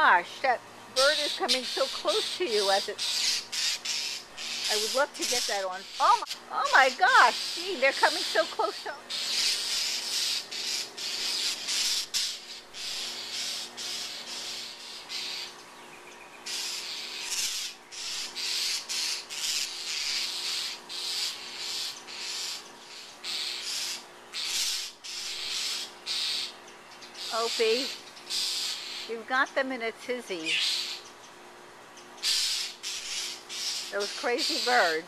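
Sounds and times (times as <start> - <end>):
birds harsh scolding calls: 0.0 - 35.0.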